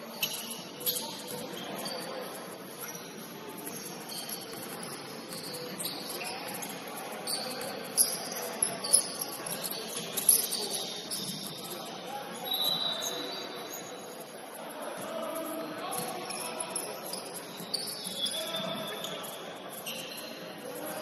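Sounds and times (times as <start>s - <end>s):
shoes squeaking on gym court: 0.1s - 14.3s, 14.9s - 21.0s.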